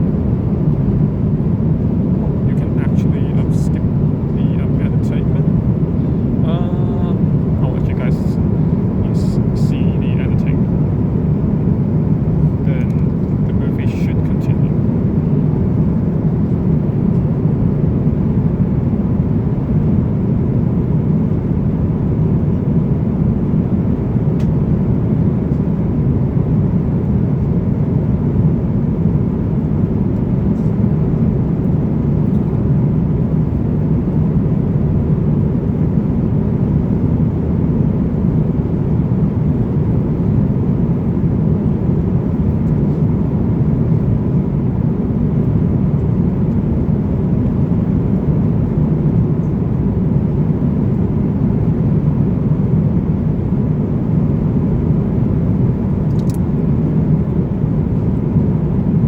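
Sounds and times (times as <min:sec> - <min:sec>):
airplane cabin engine rumble: 0:00.0 - 0:59.0
faint steady hum: 0:00.0 - 0:59.0.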